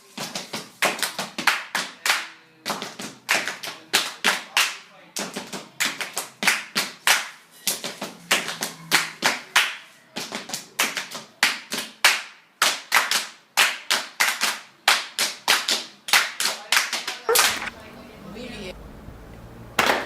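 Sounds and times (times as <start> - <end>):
hands clapping rhythm: 0.1 - 17.7.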